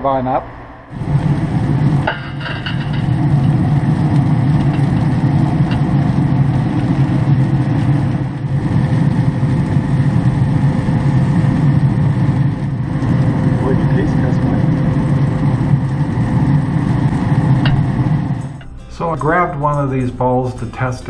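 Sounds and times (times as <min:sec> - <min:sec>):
faint hum: 0:00.0 - 0:20.9
grill fan rumbling: 0:00.0 - 0:21.0.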